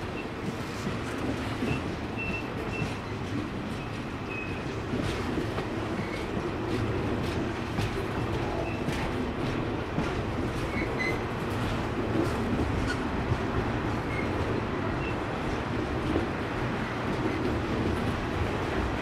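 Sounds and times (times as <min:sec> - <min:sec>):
freight train rumbling past: 0:00.0 - 0:19.0
train wheels clicking: 0:00.0 - 0:19.0.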